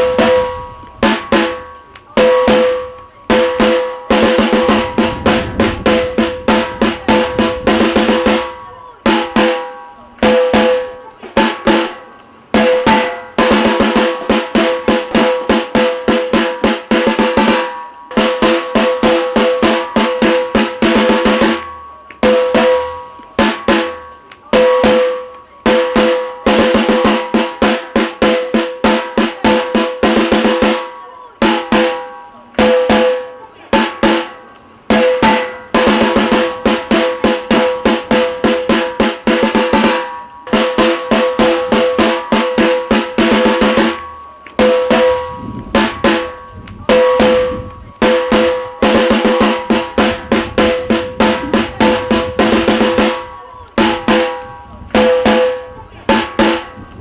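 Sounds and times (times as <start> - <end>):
snare drum march rolls: 0.0 - 57.0.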